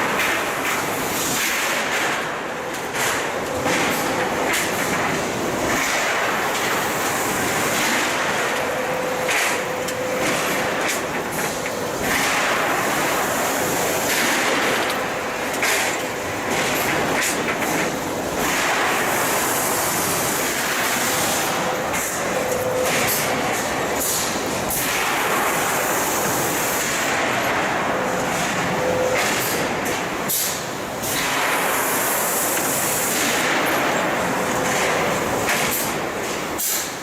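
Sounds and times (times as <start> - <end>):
mechanical clatter with sharp knocks: 0.0 - 37.0.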